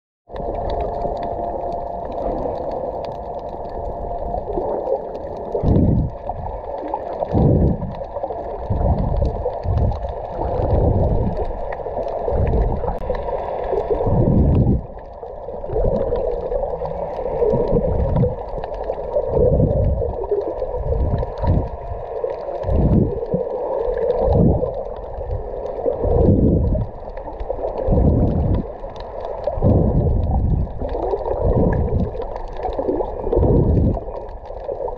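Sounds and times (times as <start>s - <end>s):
water swirling underwater: 0.3s - 34.9s.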